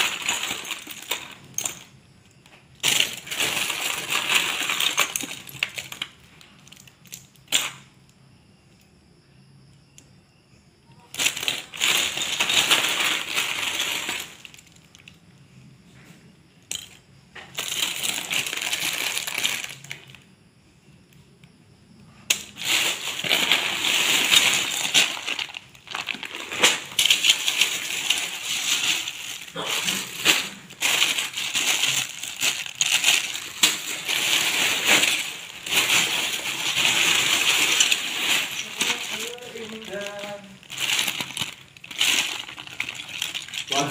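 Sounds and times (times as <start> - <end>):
plastic bricks clattering in bag: 0.0 - 7.9, 11.0 - 15.2, 16.7 - 20.2, 22.3 - 43.9.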